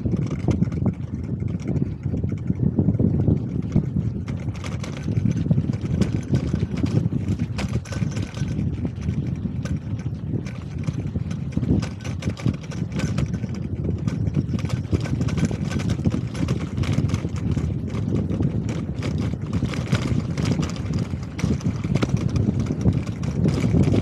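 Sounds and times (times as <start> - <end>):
wind and road rumble on microphone: 0.0 - 24.0
rattling clicks: 3.3 - 24.0.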